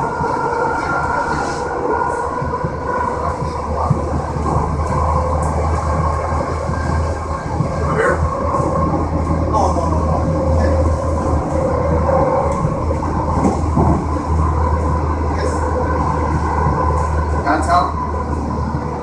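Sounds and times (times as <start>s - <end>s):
running gear whine: 0.0s - 19.0s
wheels rumbling on track: 0.0s - 19.0s.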